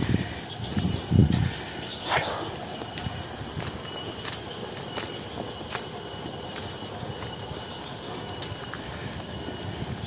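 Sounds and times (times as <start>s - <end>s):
cicadas droning: 0.0s - 10.0s
footsteps on dirt path: 0.0s - 10.0s.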